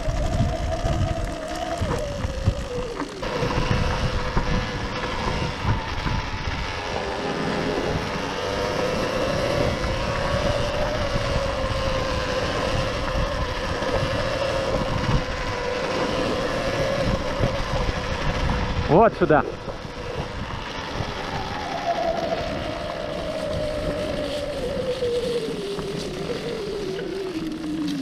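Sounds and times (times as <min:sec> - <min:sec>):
electric motor whining: 0:00.0 - 0:28.0
road rumble: 0:00.0 - 0:28.0
wind on microphone: 0:00.0 - 0:28.0.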